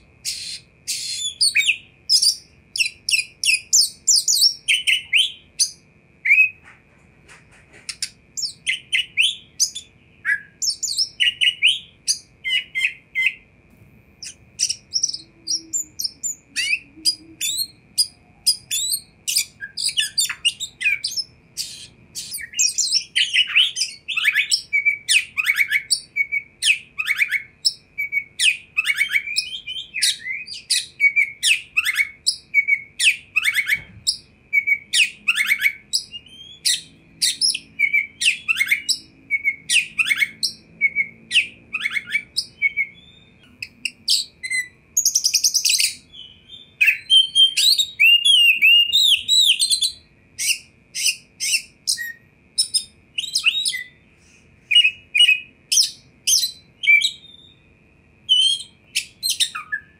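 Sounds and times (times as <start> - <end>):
bird singing whistles and chirps: 0.2 - 6.6, 7.9 - 13.5, 14.2 - 59.9.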